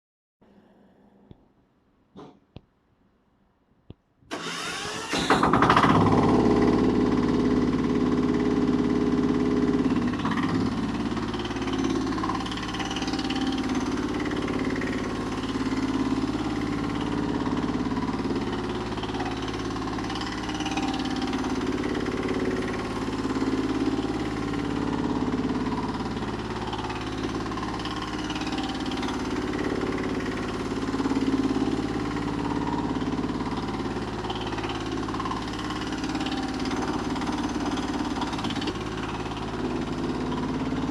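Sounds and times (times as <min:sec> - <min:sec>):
diesel engine starting and running: 0:04.3 - 0:40.9.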